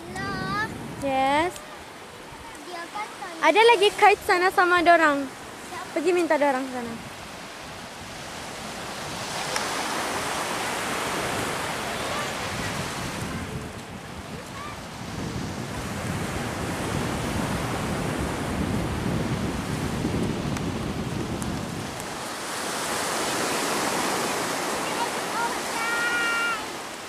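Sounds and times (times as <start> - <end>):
wind on microphone: 0.0 - 2.6, 3.4 - 27.0
sea waves washing onto beach: 0.0 - 27.0.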